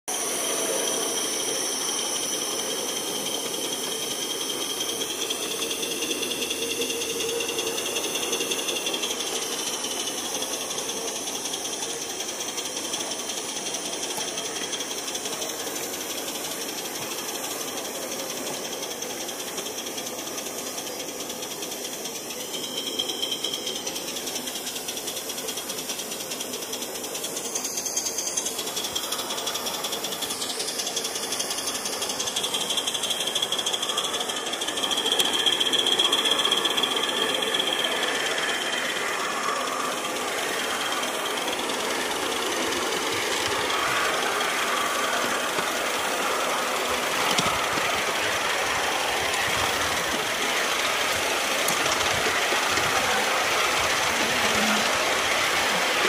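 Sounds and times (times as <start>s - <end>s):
steam hissing: 0.1s - 56.0s
wheels rattling on rails: 0.1s - 56.0s.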